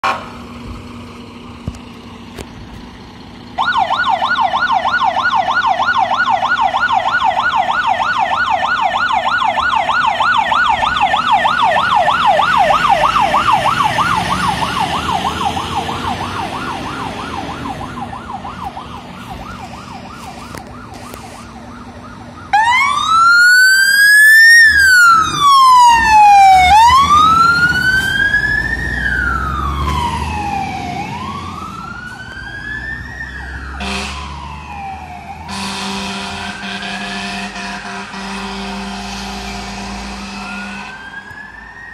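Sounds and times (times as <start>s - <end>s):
warbling yelp siren: 3.6s - 37.9s, 39.4s - 41.9s
slow wail siren: 3.6s - 41.9s.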